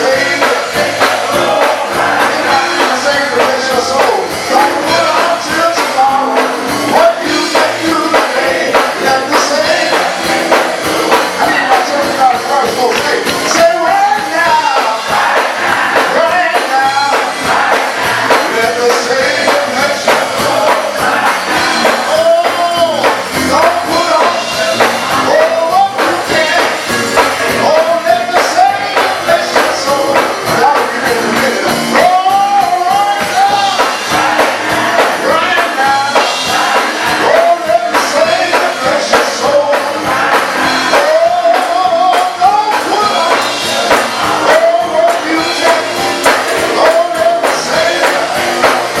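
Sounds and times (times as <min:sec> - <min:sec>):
choir singing gospel: 0:00.0 - 0:49.0
instrumental accompaniment: 0:00.0 - 0:49.0.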